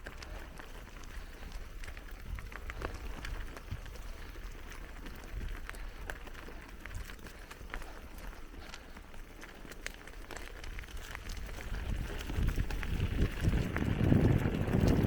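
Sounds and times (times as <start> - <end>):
bicycle tyres rolling on gravel: 0.0 - 15.0.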